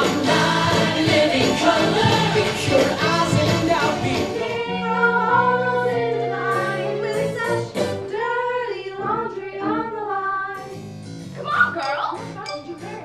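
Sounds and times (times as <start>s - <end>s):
group of young women singing: 0.0s - 10.8s.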